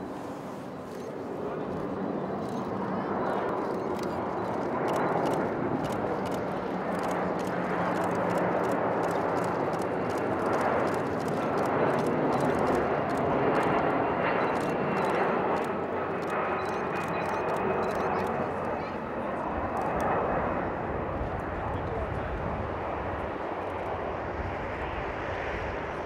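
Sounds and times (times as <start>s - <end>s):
jet aircraft passing low: 0.0s - 26.0s.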